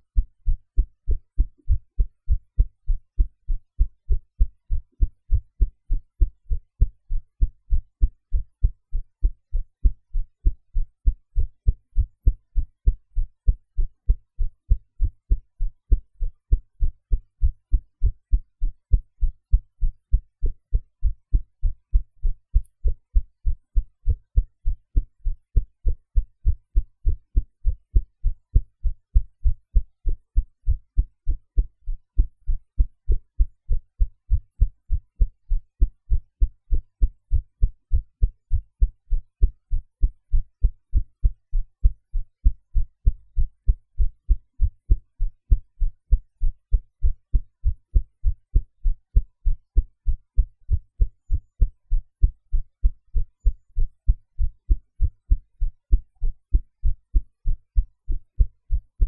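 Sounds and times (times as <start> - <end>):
heartbeat thumps: 0.2 - 58.9.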